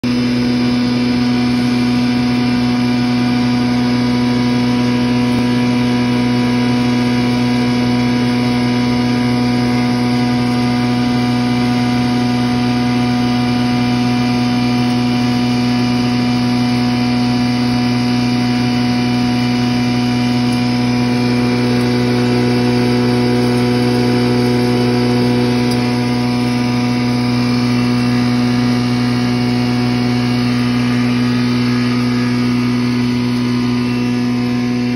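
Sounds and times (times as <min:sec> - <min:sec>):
straw grinder running: 0:00.0 - 0:34.9.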